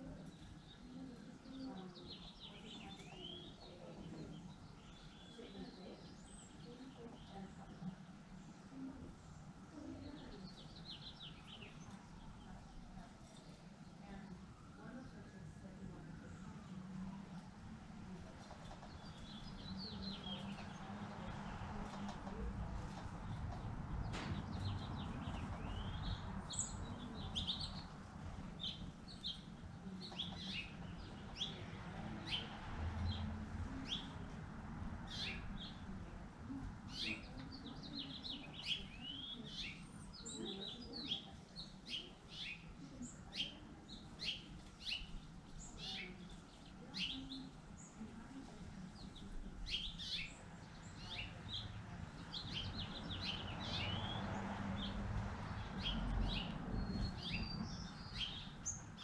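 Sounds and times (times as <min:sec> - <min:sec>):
low background noise: 0:00.0 - 0:59.0
songbirds chirping: 0:00.0 - 0:59.0.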